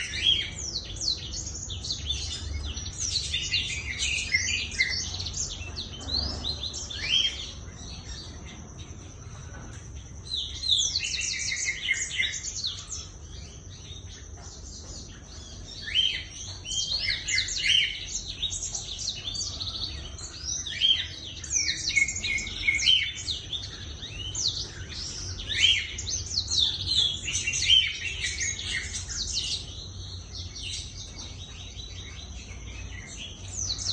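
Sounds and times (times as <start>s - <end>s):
bird singing twittering song: 0.0s - 33.9s.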